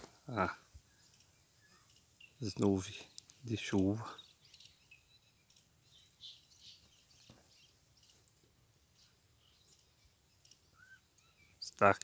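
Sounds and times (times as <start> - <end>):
faint bird chirps: 0.3 - 12.0.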